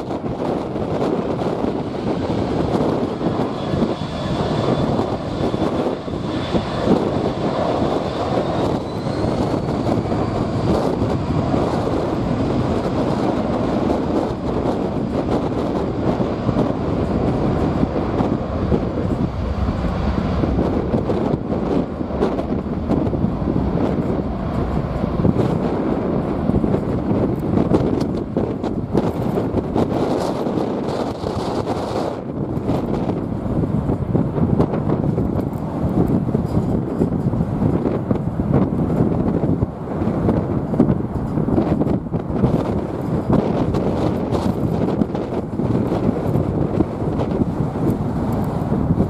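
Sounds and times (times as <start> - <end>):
high engine whine: 0.0 - 49.0
jet engines running: 0.0 - 49.0.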